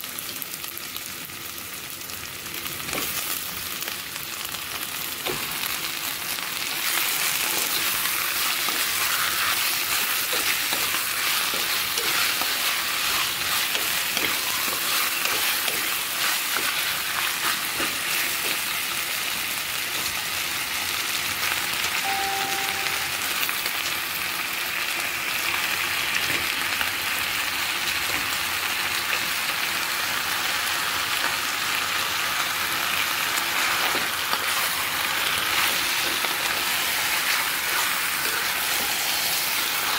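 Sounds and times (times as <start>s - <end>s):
chicken sizzling in a pot: 0.0s - 39.9s.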